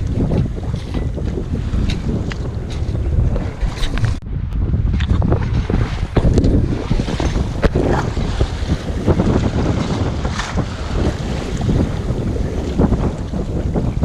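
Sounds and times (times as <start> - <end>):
water splashing along hull: 0.0 - 14.0
wind buffeting microphone: 0.0 - 14.0.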